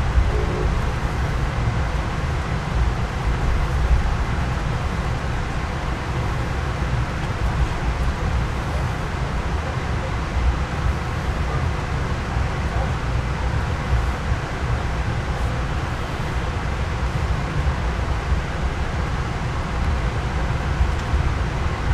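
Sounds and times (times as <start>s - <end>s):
train rumble inside coach: 0.0s - 21.9s.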